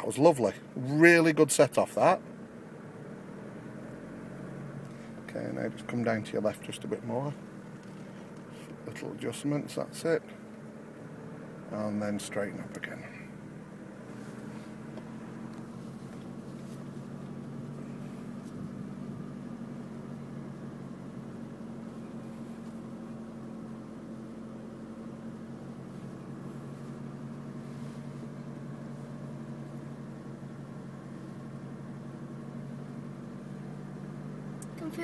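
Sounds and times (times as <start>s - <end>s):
truck engine running: 0.0s - 35.0s.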